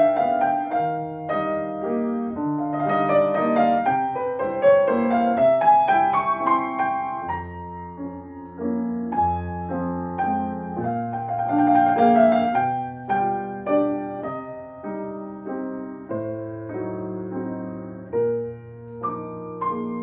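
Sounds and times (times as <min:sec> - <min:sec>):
classical piano piece: 0:00.0 - 0:20.0.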